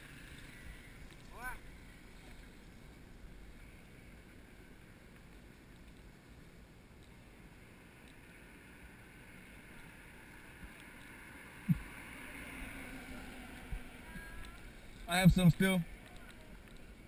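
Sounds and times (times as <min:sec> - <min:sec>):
faint ticks: 0:00.0 - 0:17.0.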